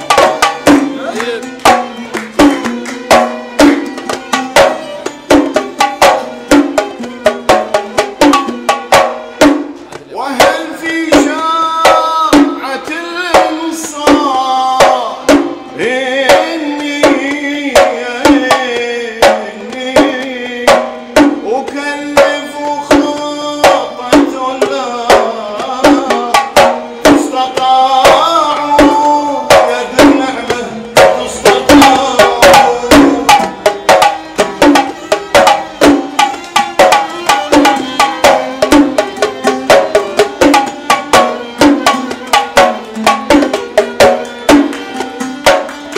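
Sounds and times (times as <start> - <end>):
hand drum beating: 0.0 - 45.9
oud: 0.0 - 45.9.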